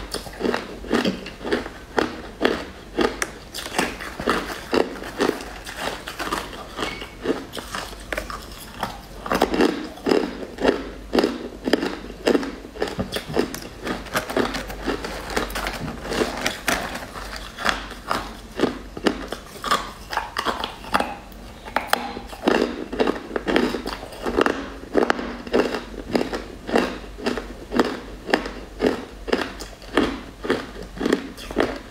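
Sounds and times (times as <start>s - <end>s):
crunching candy: 0.0s - 31.9s.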